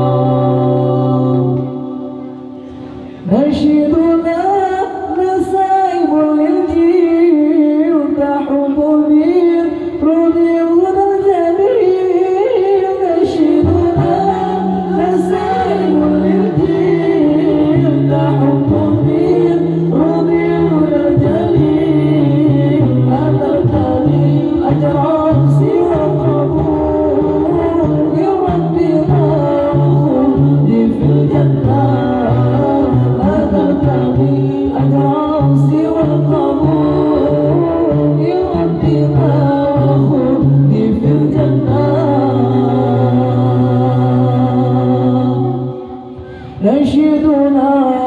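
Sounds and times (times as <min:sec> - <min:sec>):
men chanting a cappella: 0:00.0 - 0:06.9, 0:11.0 - 0:48.0.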